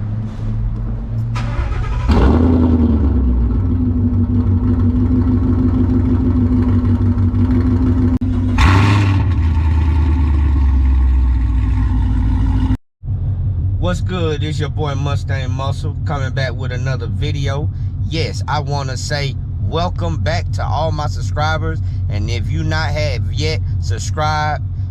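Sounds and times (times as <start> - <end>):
car engine revving: 0.0 - 24.2.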